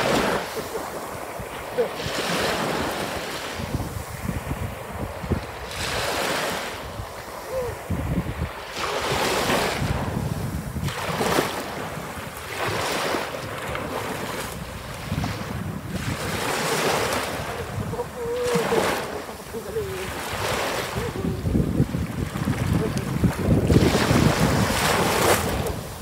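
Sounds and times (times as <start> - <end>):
small waves breaking on sand: 0.0 - 26.0
wind rumbling on microphone: 0.0 - 26.0.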